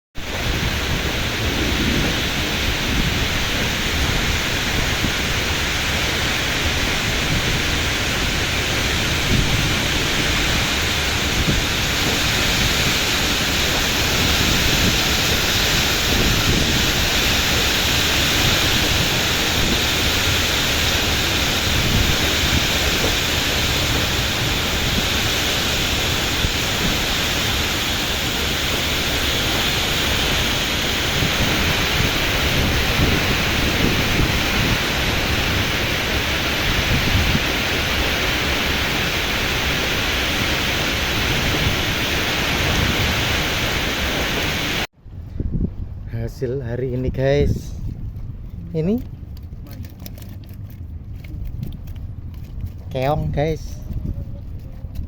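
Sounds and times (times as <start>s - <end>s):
strong wind buffeting microphone: 0.2s - 55.0s.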